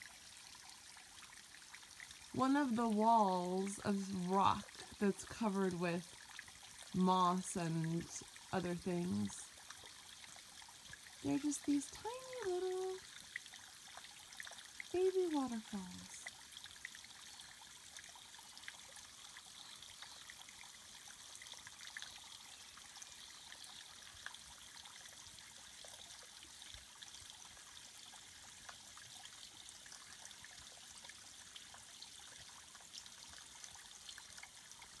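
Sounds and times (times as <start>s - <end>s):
water drips ticking: 0.0s - 35.0s
water trickling down rock: 0.0s - 35.0s.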